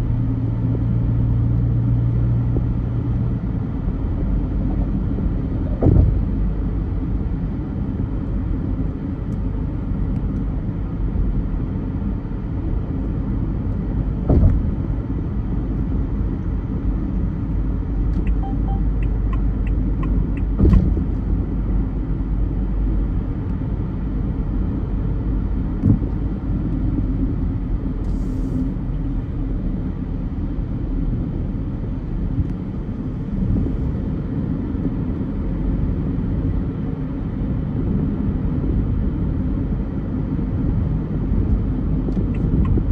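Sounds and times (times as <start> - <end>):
car driving rumble: 0.0 - 42.9.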